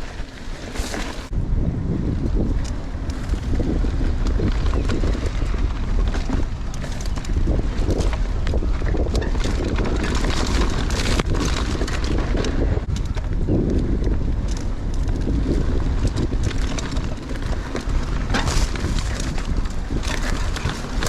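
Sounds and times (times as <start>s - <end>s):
bike clicks and rattles: 0.0s - 21.0s
bike tyre noise on dirt: 0.0s - 21.0s
wind buffeting microphone: 0.0s - 21.0s.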